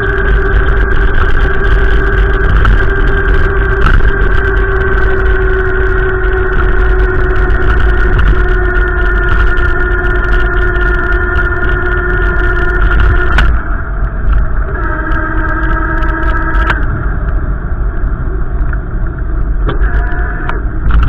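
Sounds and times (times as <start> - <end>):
steady humming tone: 0.0 - 21.0
wind buffeting microphone: 0.0 - 21.0.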